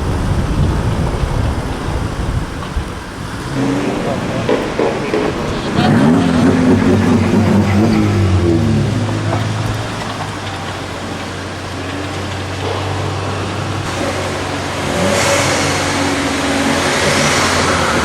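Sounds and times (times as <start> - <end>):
car engine droning: 0.0 - 18.0
loud rushing noise: 0.0 - 18.0.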